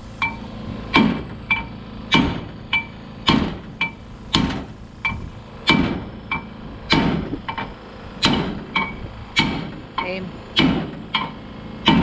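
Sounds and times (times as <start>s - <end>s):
hammer striking metal: 0.2s - 12.0s.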